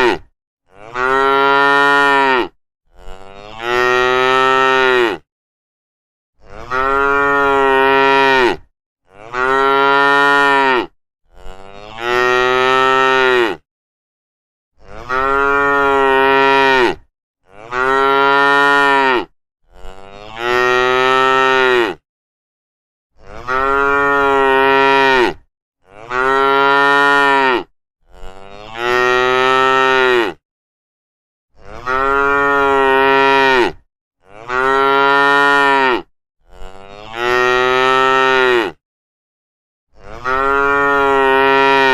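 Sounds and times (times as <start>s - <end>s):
cows mooing: 0.0s - 5.2s, 6.5s - 13.6s, 14.9s - 22.0s, 23.3s - 30.4s, 31.6s - 38.8s, 40.0s - 41.9s.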